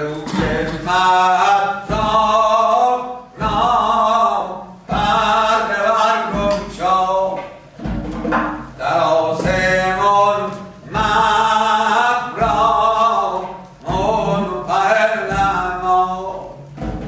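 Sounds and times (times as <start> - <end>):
man chanting: 0.0 - 7.6, 8.8 - 16.8
goblet drum strokes: 0.0 - 17.0.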